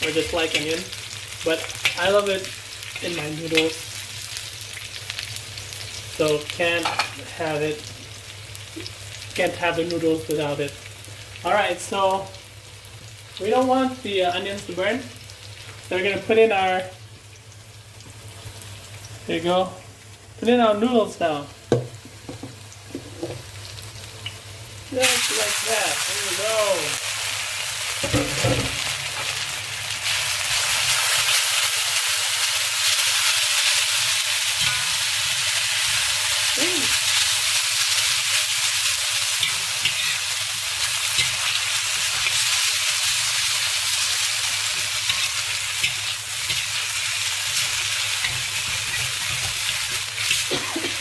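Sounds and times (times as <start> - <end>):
noodles sizzling in hot oil: 0.0 - 51.0.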